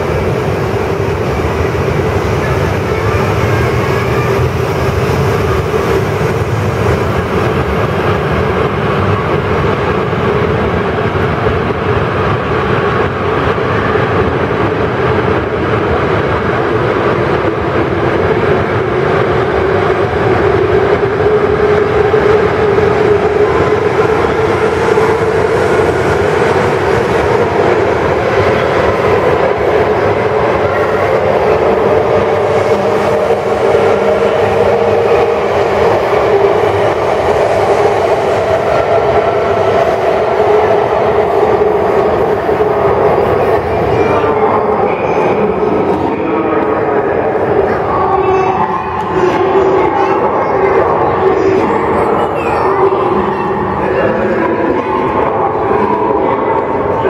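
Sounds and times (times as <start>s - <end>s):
high-speed train rolling past: 0.0s - 57.0s.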